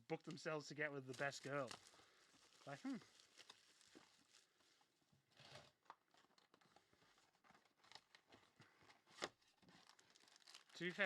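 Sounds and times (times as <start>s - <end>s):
card packaging rustling: 1.1s - 11.0s.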